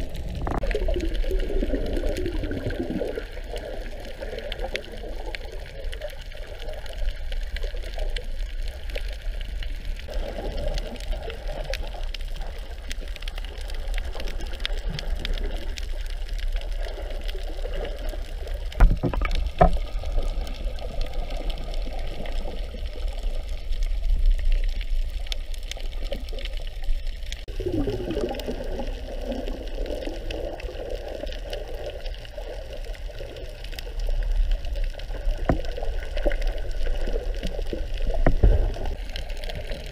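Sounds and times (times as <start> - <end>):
underwater water wash with rumble: 0.0 - 39.9.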